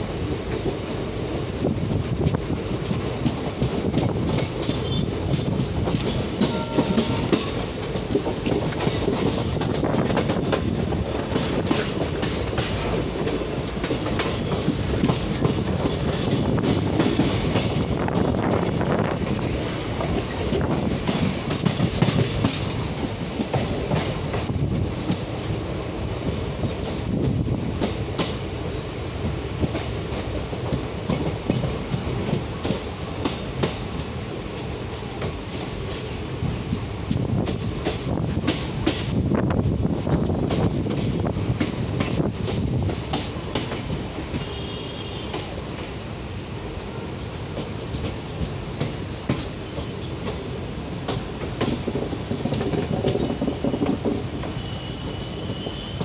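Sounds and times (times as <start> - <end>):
wheels clickety-clack over rail joints: 0.0 - 46.0, 46.8 - 56.0
wheels rumbling on rail: 0.0 - 56.0.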